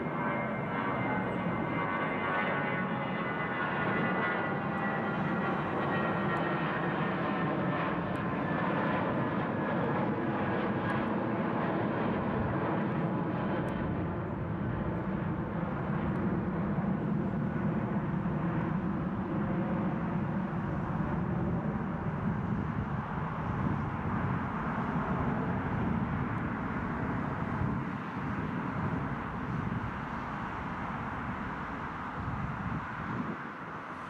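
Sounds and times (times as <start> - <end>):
jet engines droning overhead: 0.0 - 34.0.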